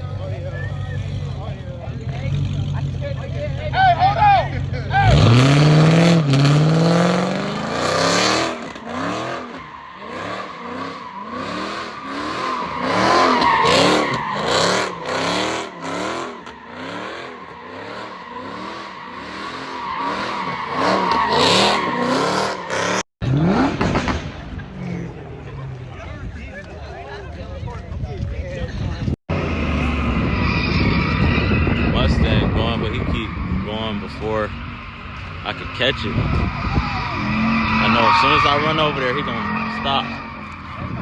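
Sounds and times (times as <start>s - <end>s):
car engine revving: 0.0s - 26.0s, 29.3s - 41.0s
tires squealing on pavement: 0.2s - 27.3s, 29.4s - 41.0s.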